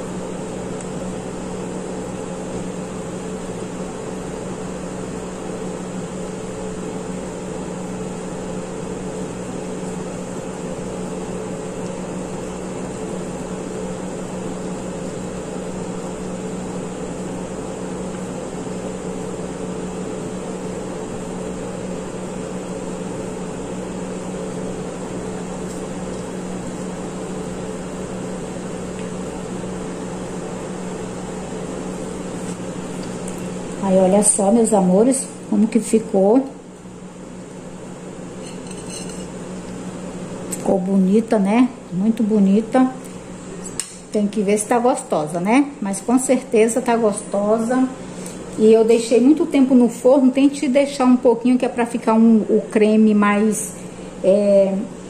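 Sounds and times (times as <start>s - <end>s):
machine hum: 0.0s - 55.0s.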